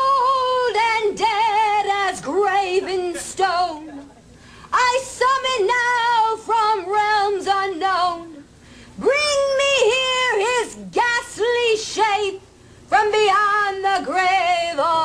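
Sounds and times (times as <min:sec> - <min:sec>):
woman singing with heavy vibrato: 0:00.0 - 0:04.0, 0:04.6 - 0:15.0.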